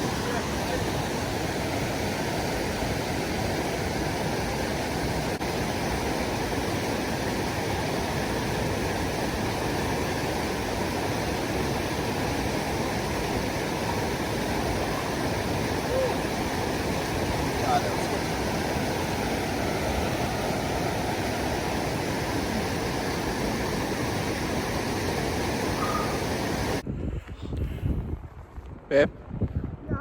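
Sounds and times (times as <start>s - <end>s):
rushing stream water: 0.0s - 26.8s.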